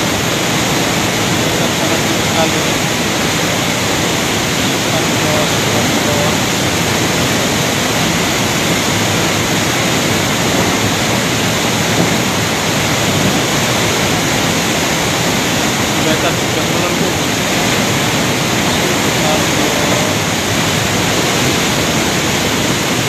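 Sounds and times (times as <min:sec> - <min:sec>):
river water roaring: 0:00.0 - 0:23.0.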